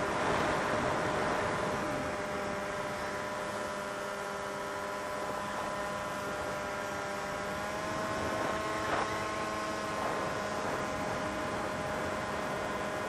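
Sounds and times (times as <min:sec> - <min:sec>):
quadcopter motors whining: 0:00.2 - 0:13.0.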